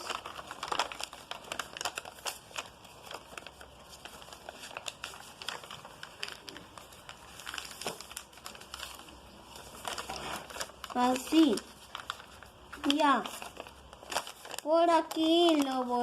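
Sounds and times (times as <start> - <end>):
paper crease clicks: 0.0 - 16.0
paper crinkling and rustling: 0.0 - 16.0.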